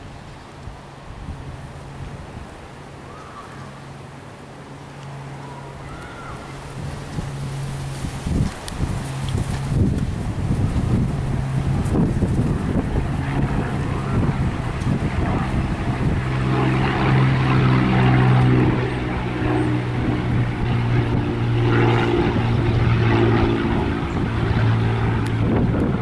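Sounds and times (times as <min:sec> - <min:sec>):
propeller plane droning overhead: 0:00.0 - 0:26.0.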